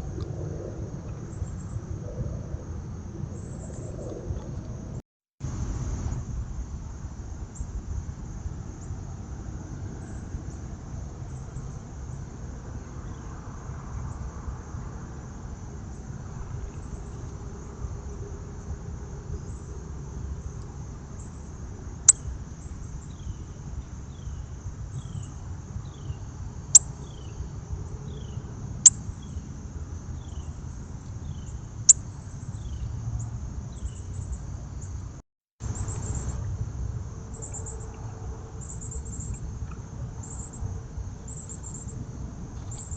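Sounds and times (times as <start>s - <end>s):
low background rumble: 0.0s - 42.7s
high insect trill: 0.0s - 42.9s.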